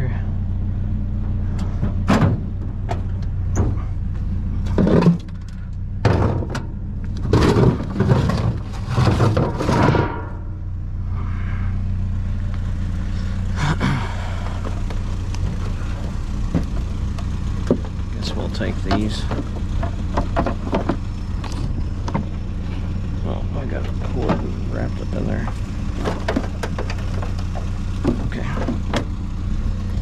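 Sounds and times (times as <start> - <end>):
vehicle engine idling: 0.0 - 30.0
clunks scrapes and rattles: 0.9 - 30.0.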